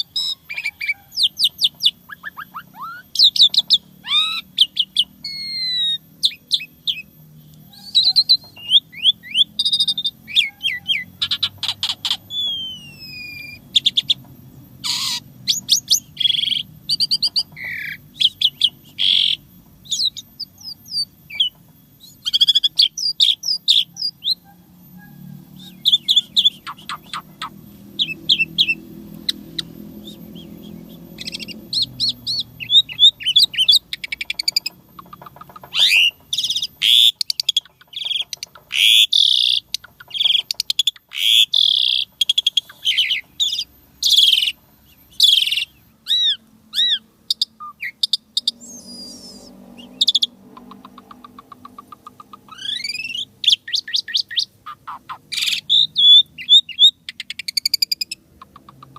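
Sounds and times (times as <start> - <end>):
starling singing whistles and chirps: 0.0 - 58.9.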